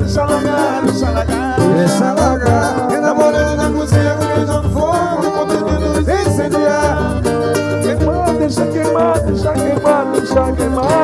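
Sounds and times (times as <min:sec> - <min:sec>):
bass line: 0:00.0 - 0:11.0
live band romantic song: 0:00.0 - 0:11.0
plucked strings: 0:00.0 - 0:11.0.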